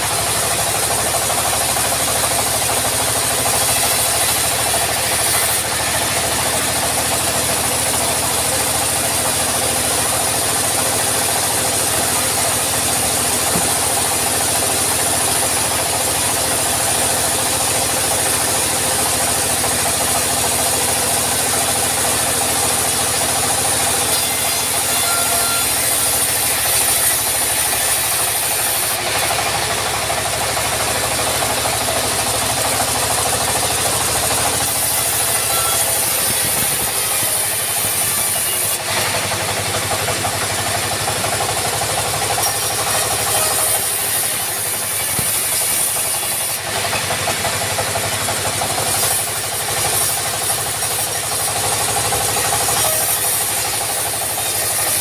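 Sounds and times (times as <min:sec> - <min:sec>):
saw blade hissing through wood: 0:00.0 - 0:55.0
sawmill engine drone: 0:00.0 - 0:55.0.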